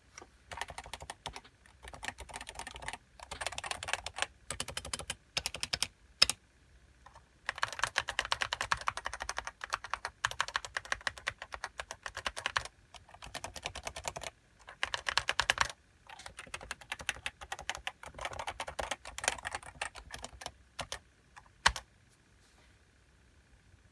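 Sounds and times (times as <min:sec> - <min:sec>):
fast typing on keyboard: 0:00.5 - 0:06.4, 0:07.1 - 0:21.0, 0:21.6 - 0:21.8.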